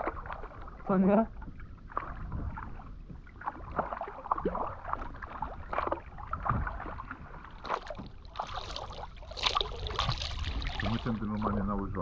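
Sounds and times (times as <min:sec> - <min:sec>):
paddles splashing in water: 0:00.0 - 0:12.0.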